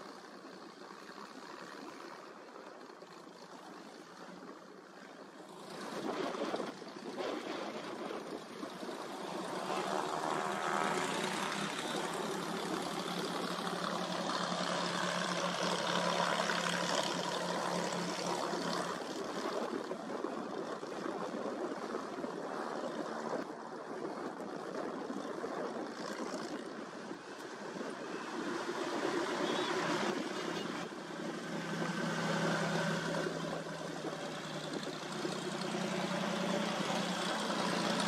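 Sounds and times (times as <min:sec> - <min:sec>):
propeller aircraft engines humming: 0:00.0 - 0:38.0.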